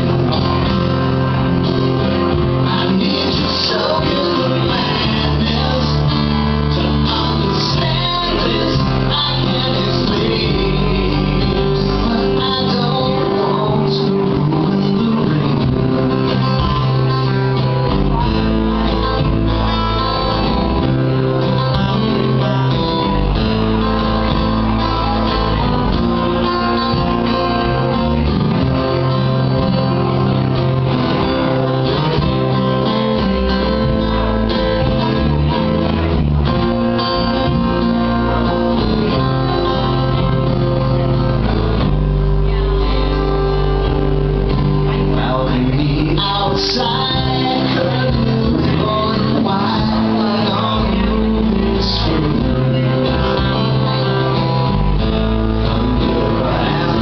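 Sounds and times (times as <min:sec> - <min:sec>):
acoustic guitars strummed: 0:00.0 - 0:57.0
electric guitar: 0:00.0 - 0:57.0
steady low bass line: 0:00.0 - 0:57.0.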